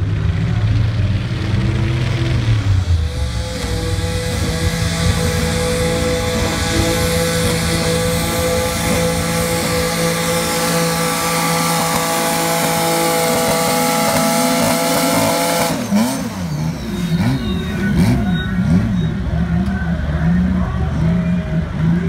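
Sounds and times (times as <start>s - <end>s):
tractor engine high revs: 0.0s - 22.0s.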